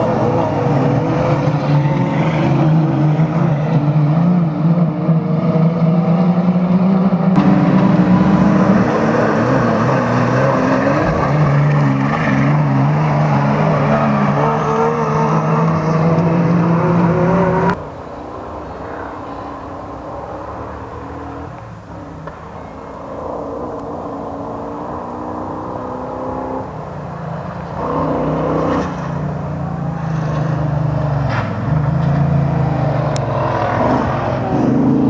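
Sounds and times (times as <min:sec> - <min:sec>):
race truck engines running hard: 0:00.0 - 0:35.0.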